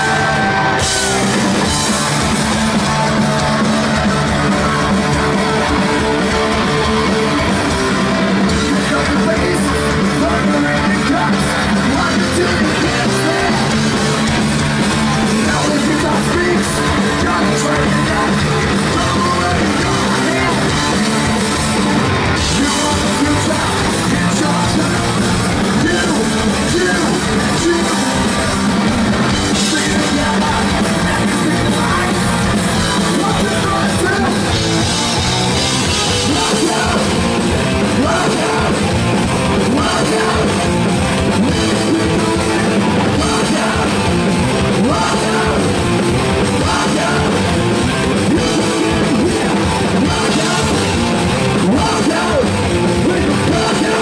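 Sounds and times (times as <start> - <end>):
bass guitar: 0.0 - 54.0
distorted electric guitars: 0.0 - 54.0
driving drum kit: 0.0 - 54.0
hard rock band playing: 0.0 - 54.0.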